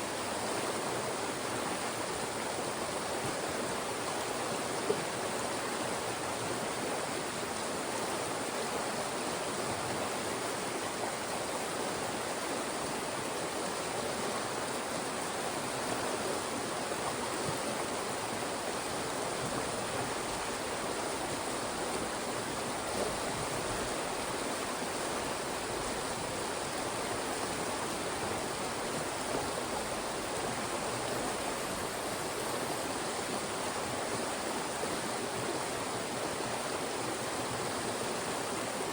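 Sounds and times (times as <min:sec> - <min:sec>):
mountain stream rushing over rocks: 0:00.0 - 0:38.9.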